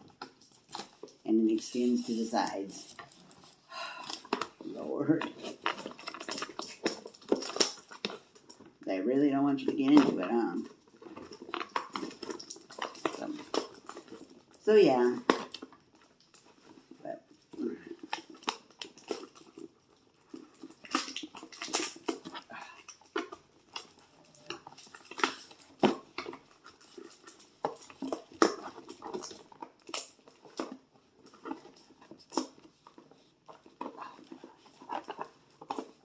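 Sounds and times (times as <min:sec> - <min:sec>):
box and plastic handled: 0:00.0 - 0:36.0.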